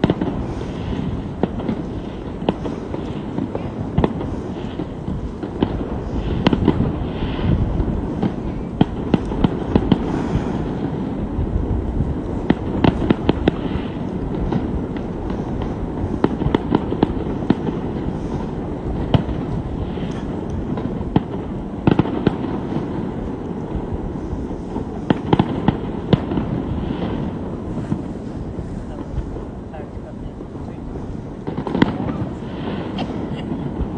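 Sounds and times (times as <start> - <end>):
fireworks cracks and bangs: 0.0 - 33.9
steady low rumble: 0.0 - 33.9.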